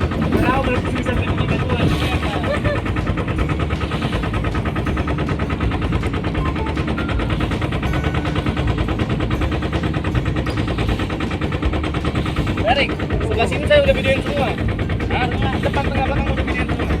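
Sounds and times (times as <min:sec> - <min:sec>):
boat engine popping: 0:00.0 - 0:17.0.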